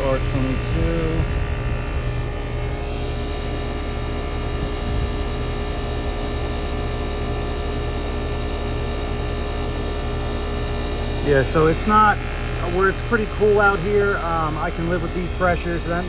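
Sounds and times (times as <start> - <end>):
heat pump humming: 0.0 - 16.0.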